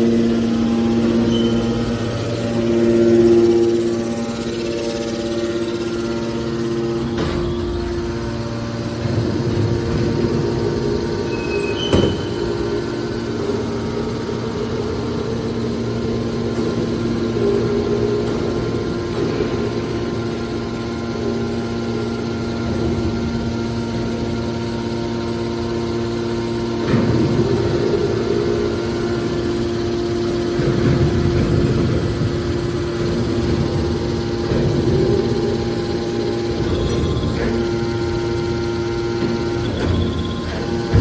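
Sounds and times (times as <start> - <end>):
hydraulic power unit humming: 0.0 - 41.0.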